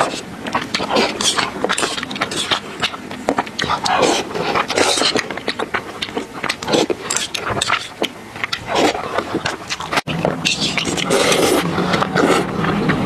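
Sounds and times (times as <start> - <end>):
chewing with wet mouth clicks: 0.0 - 13.0
slurping noodles: 0.0 - 13.0.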